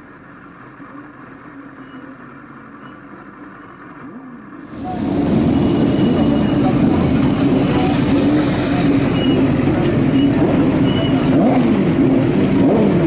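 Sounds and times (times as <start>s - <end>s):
motorcycle engines revving: 0.2s - 13.0s.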